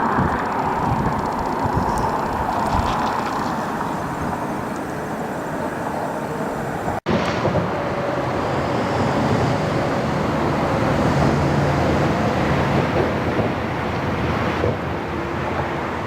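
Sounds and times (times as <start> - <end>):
outdoor rumbling noise: 0.0 - 16.0.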